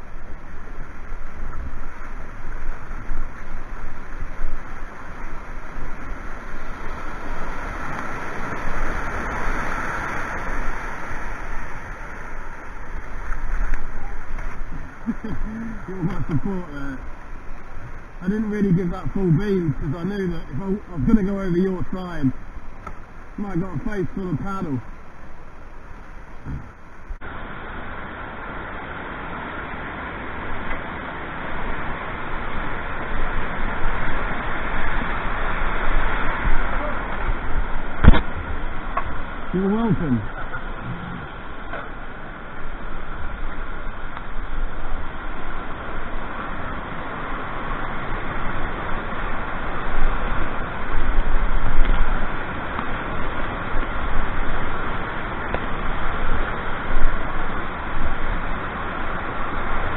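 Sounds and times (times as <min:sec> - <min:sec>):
white water rushing over weir: 0:00.0 - 0:59.9.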